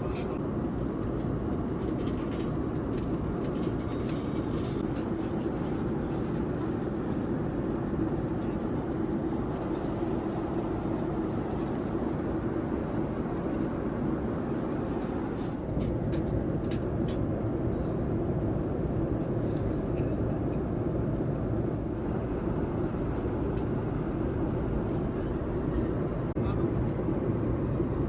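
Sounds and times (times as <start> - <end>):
airplane cabin noise: 0.0 - 28.0.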